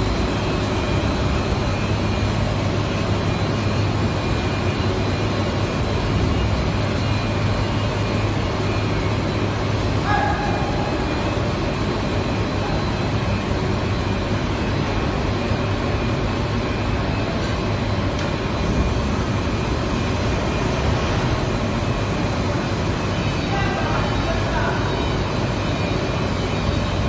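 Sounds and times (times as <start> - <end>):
machine motors humming and whirring: 0.0 - 27.0.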